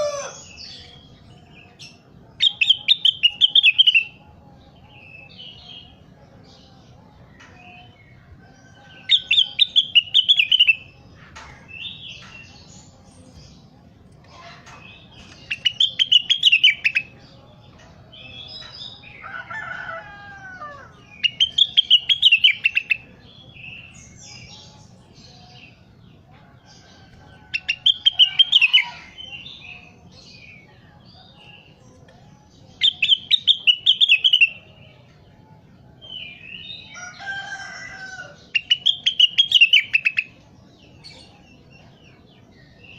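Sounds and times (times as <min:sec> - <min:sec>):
soft bird chirps and calls: 0:00.0 - 0:42.9.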